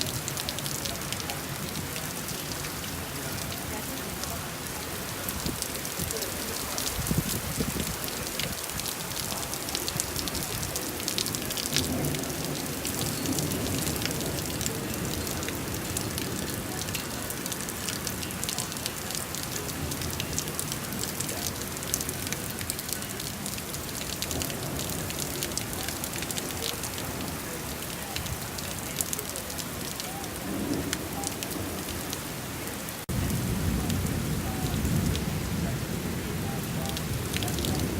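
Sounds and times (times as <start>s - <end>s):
rain on a hard surface: 0.0s - 37.9s.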